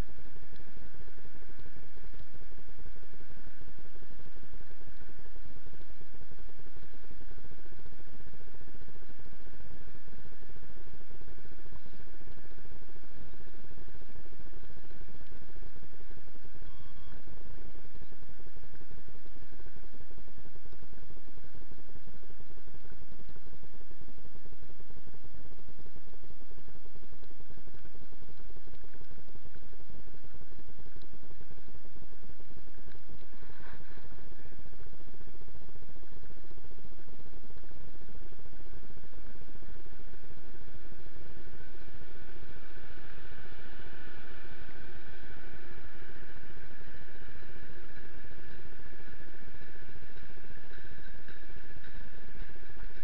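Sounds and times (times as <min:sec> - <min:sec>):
low rumbling crackling microphone noise: 0:00.0 - 0:53.0.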